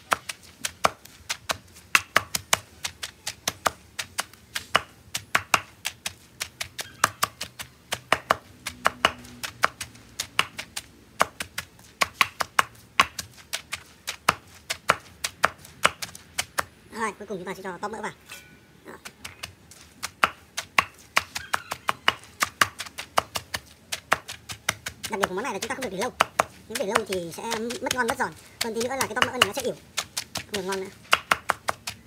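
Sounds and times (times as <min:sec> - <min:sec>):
pestle pounding in mortar: 0:00.0 - 0:16.7, 0:19.0 - 0:32.0.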